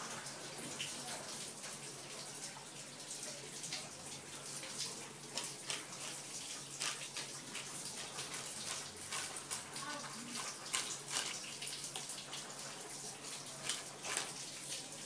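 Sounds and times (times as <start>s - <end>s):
puppy lapping milk: 0.7s - 15.0s.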